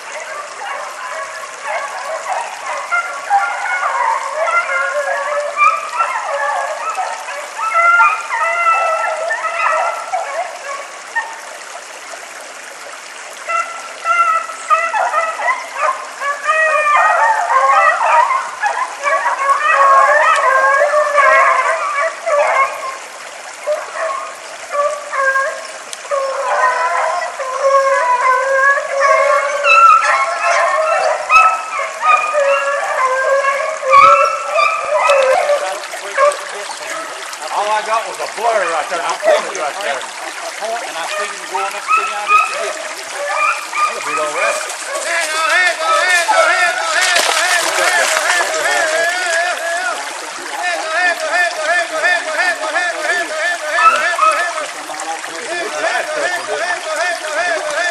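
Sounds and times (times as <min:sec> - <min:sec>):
pack of hounds baying: 0:00.0 - 0:11.5, 0:13.4 - 0:57.9.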